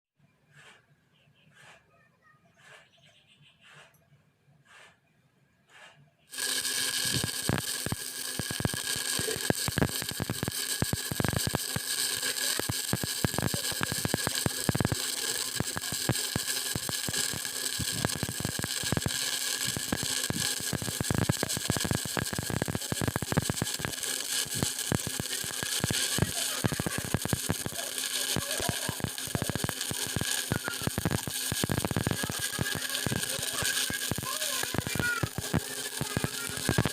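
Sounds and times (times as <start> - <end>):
welding arc crackling: 6.3 - 36.9.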